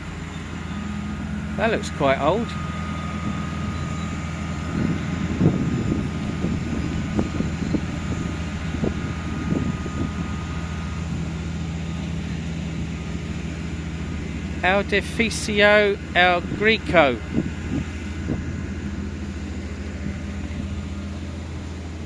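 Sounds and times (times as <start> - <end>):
steady low street drone: 0.0 - 22.0.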